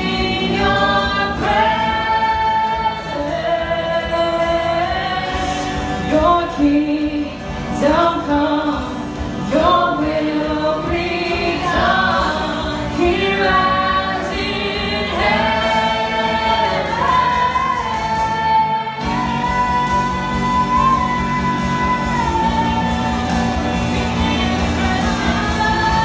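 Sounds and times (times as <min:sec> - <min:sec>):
guitar: 0:00.0 - 0:26.0
voices singing worship song: 0:00.0 - 0:26.0.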